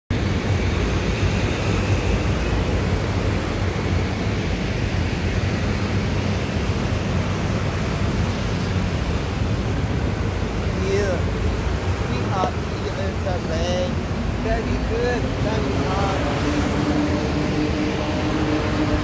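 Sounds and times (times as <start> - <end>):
road traffic: 0.1 - 19.0
wind rumbling on microphone: 0.1 - 19.0.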